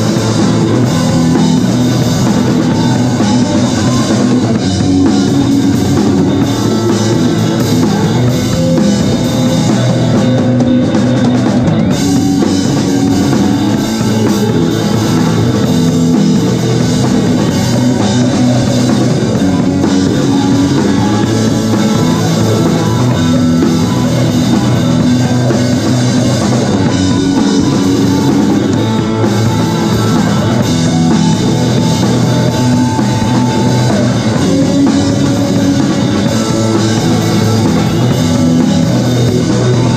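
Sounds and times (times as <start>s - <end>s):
drum kit with bass drum: 0.0s - 39.9s
electric guitar: 0.0s - 39.9s.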